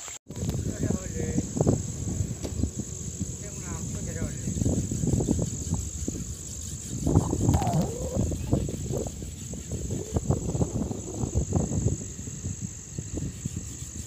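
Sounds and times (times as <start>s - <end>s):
insects trilling: 0.0s - 14.0s
low rumbling noise: 0.3s - 13.8s.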